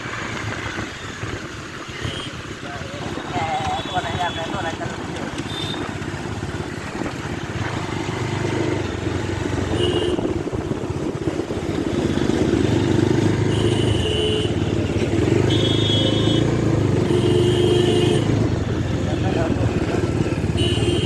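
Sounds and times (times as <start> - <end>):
motorcycle engine running: 0.0 - 21.0
road noise: 0.0 - 21.0.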